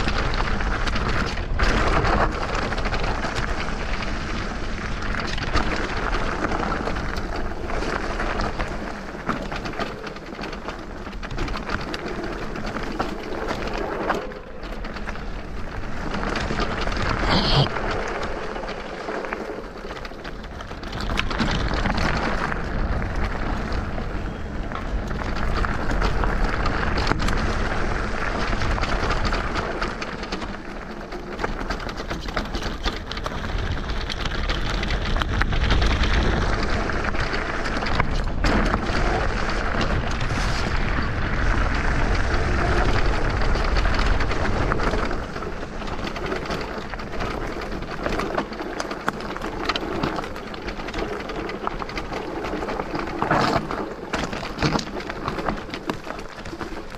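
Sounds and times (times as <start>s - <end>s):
bike rumbling and rattling: 0.0s - 56.9s
tyres on loose stones and gravel: 0.0s - 56.9s.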